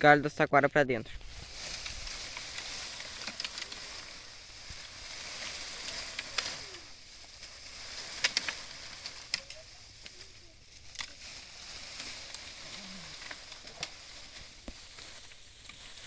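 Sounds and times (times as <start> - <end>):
bamboo branches rustling: 1.0 - 16.0
twigs cracking: 1.2 - 16.0.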